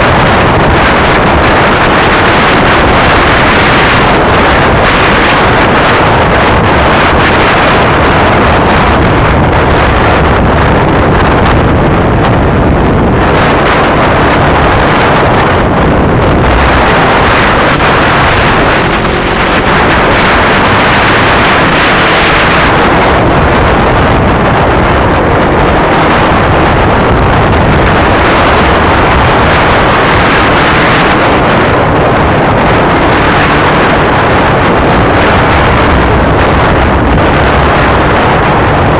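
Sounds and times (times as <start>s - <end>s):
motorcycle engine: 0.0s - 38.9s
wind rushing over microphone: 0.0s - 38.9s.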